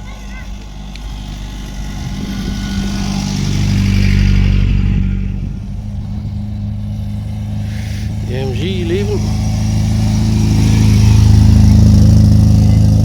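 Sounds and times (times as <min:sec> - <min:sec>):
car engine driving past: 0:01.0 - 0:13.0.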